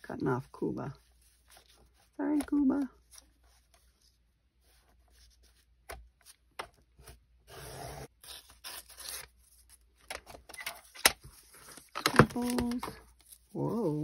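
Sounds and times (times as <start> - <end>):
paper rustling: 1.0 - 14.0.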